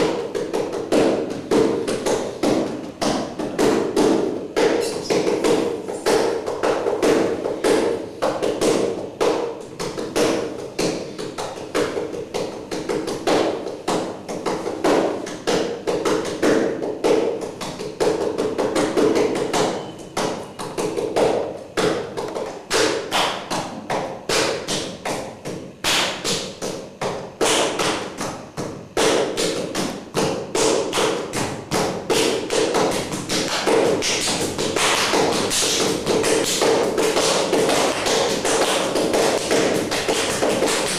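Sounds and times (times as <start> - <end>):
rapid tapping and thumps: 0.0 - 40.9.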